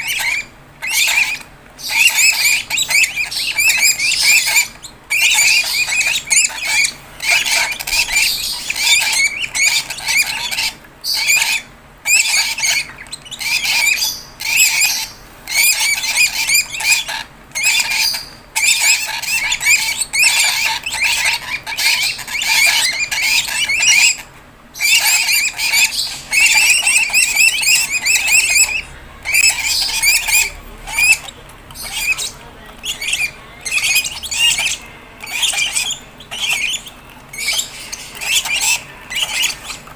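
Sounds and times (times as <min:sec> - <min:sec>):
bird chicks squeaky begging calls: 0:00.0 - 0:39.9.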